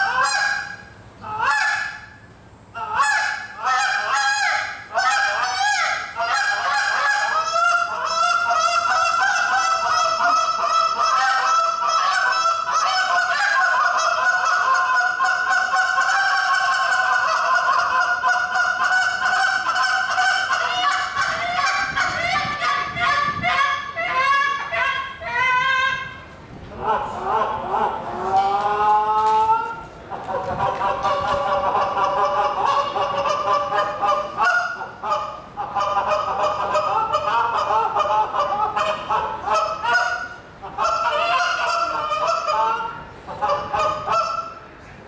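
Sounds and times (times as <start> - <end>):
goose call clucks and honks: 0.0 - 44.6.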